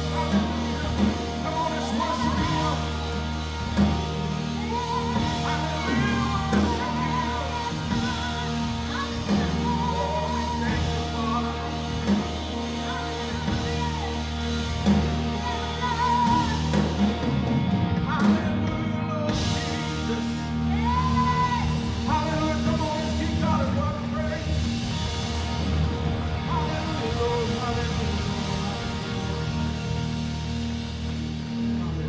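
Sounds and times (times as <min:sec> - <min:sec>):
worship singing: 0:00.0 - 0:32.0.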